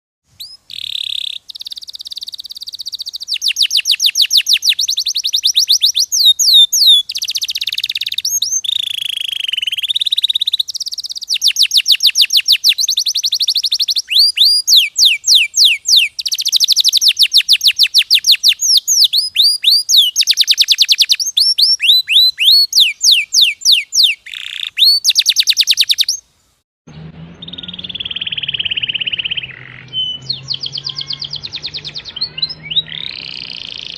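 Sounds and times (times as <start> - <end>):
canary singing rapid trills: 0.4 - 26.2, 27.4 - 33.9.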